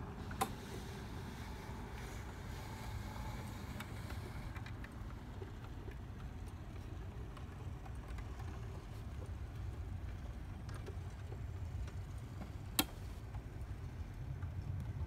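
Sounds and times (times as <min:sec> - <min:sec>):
model train motor rumbling: 0:00.0 - 0:14.9.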